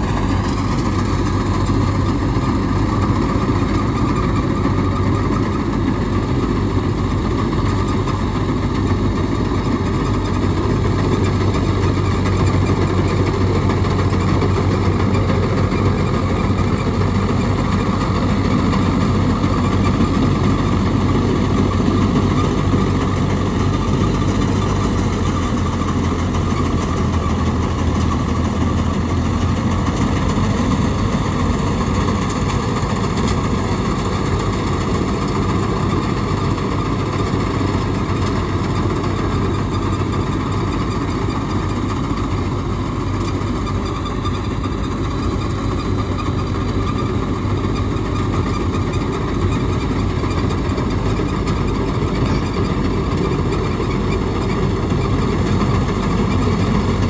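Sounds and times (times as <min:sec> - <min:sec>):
threshing machinery noise: 0:00.0 - 0:57.0
tractor diesel engine running: 0:00.0 - 0:57.0.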